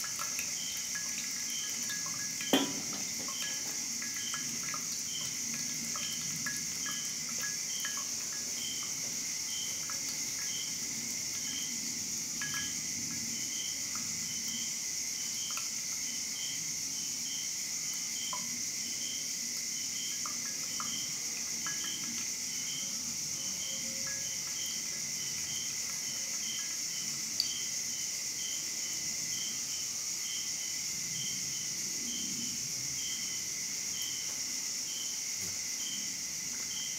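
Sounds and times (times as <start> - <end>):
coffee dripping: 0.0 - 36.9
insect chirring: 0.0 - 36.9.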